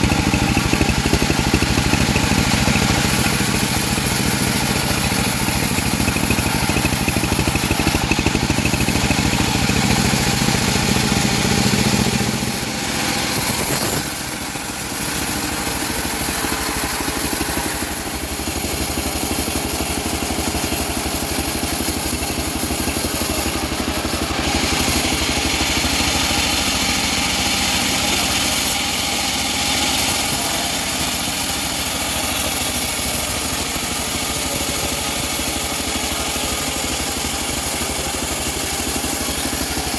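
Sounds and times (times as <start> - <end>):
bandsaw sawmill ripping logs: 0.0 - 39.9
lighter steady machine sound: 0.0 - 39.9.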